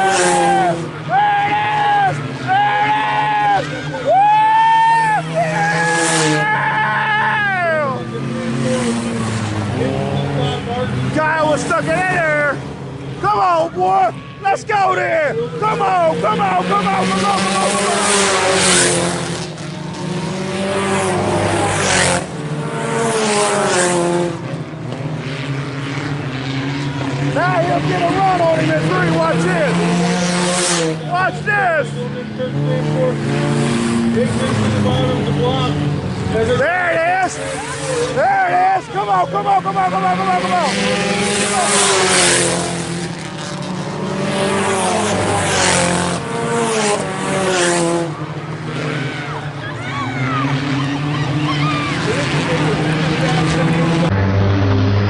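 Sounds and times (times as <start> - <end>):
race car engines at high revs: 0.0 - 55.0.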